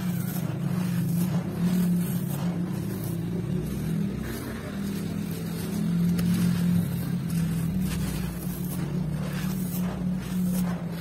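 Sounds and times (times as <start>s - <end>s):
gritty crunching of sand: 0.0s - 11.0s
low mechanical hum: 0.0s - 11.0s.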